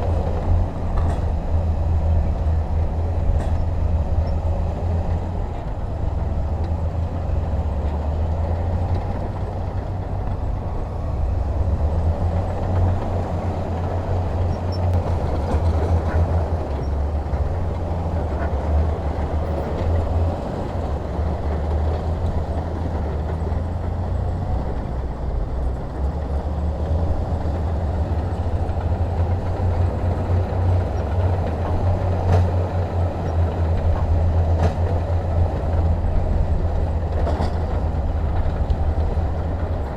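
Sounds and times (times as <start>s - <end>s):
diesel machinery engine rumble: 0.0s - 39.9s.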